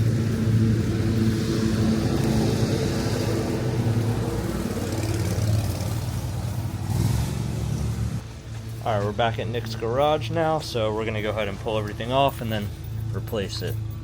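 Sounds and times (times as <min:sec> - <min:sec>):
road and wind noise hiss: 0:00.0 - 0:14.0.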